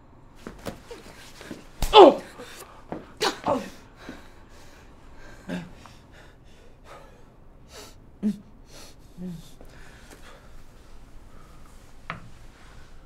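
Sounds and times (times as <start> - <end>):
person breathing unevenly: 0.7 - 13.0.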